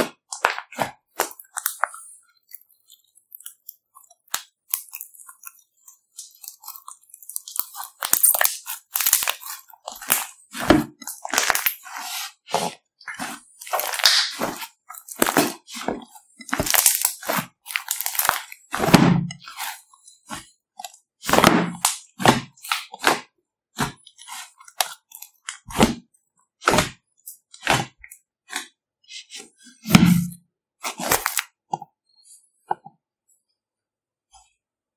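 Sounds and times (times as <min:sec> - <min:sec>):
slime crackling and squelching: 0:00.0 - 0:31.7.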